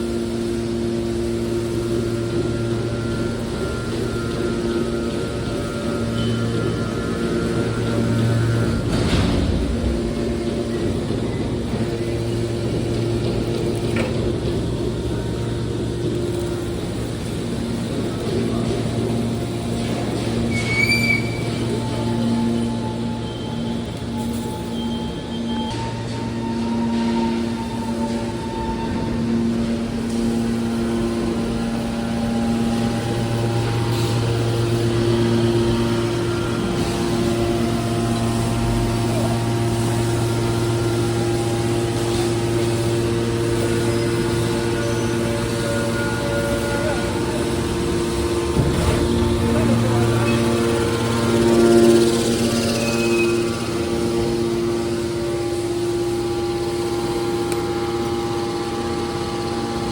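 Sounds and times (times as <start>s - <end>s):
hydraulic baler power unit humming: 0.0s - 59.9s.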